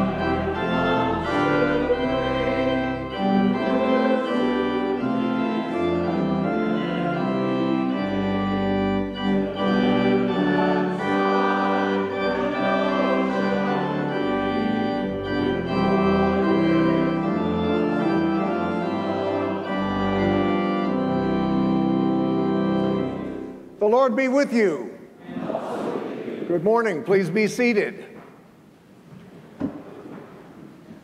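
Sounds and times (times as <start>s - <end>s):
pipe organ playing a hymn: 0.0s - 25.0s, 26.5s - 28.0s
congregation singing: 0.0s - 27.8s.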